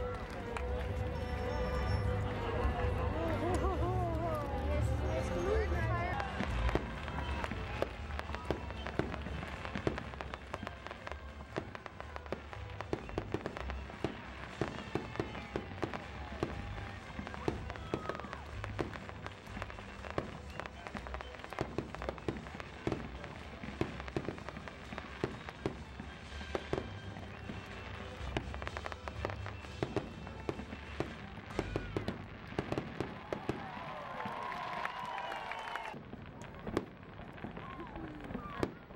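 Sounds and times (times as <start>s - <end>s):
firework bangs and crackles: 0.0s - 38.9s.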